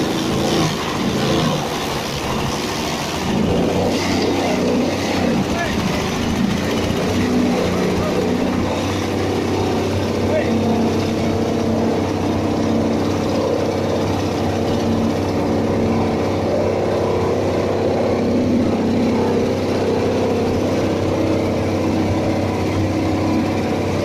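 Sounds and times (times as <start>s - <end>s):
garden chopper running: 0.0s - 24.0s.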